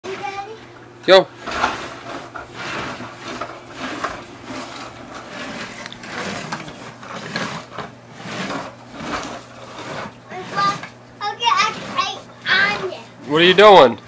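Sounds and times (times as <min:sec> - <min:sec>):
plastic wheels rolling on vinyl floor: 0:01.4 - 0:14.0.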